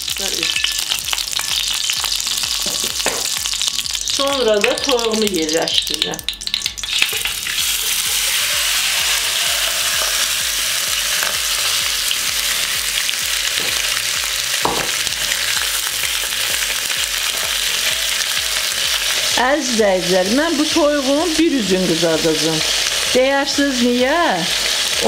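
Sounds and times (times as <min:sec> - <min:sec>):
chicken sizzling in a frying pan: 0:00.0 - 0:25.0
oil crackling: 0:00.0 - 0:25.0.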